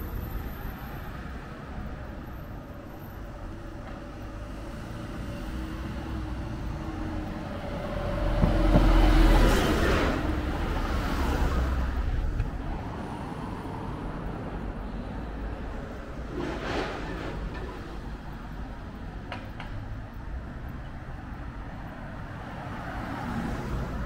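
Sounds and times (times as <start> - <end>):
street noise: 0.0 - 24.0.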